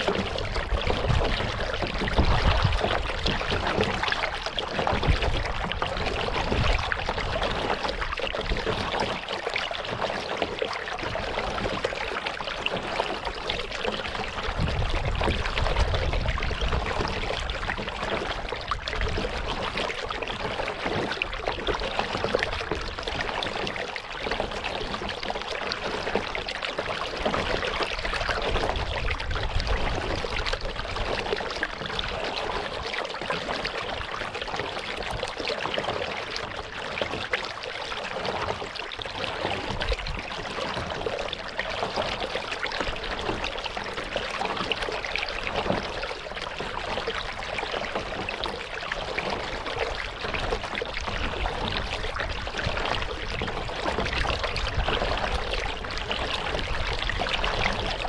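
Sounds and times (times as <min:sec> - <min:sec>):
water splashing around kayak: 0:00.0 - 0:58.0.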